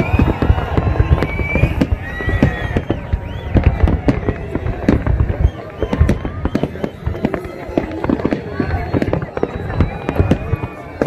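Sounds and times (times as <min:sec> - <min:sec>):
firework bangs and booms: 0:00.0 - 0:11.0
firework whistles: 0:00.0 - 0:11.0.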